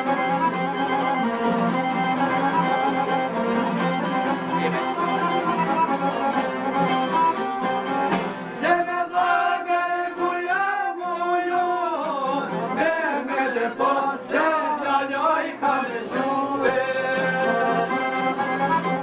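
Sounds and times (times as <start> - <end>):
accordion: 0.0 - 19.0
man singing folk song: 0.0 - 19.0
strummed lutes: 0.0 - 19.0.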